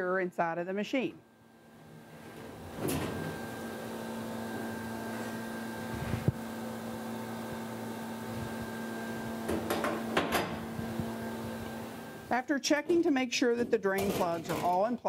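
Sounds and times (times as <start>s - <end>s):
steady hum: 0.1s - 13.7s.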